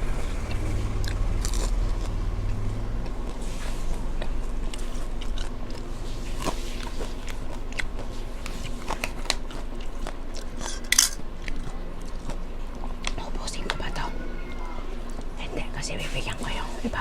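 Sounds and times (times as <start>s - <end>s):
person chewing with crunches: 0.0s - 15.4s.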